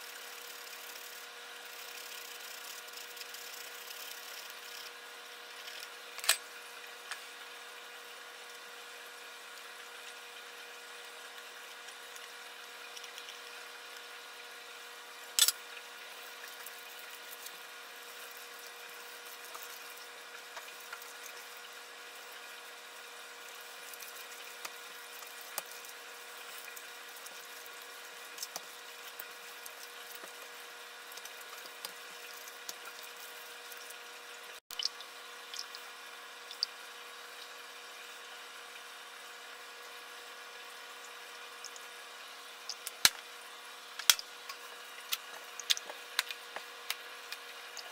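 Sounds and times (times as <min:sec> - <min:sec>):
steady machine hum: 0:00.0 - 0:47.9.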